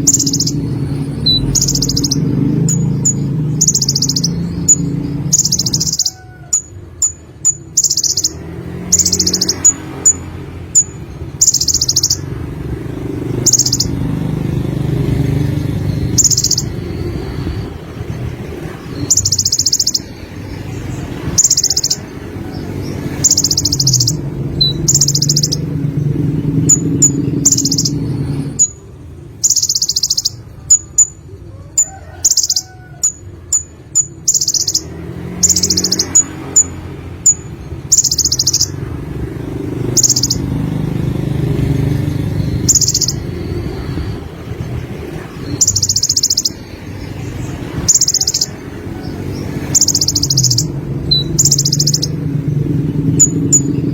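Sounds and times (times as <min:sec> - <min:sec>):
bird buzzy trills: 0:00.0 - 0:53.9.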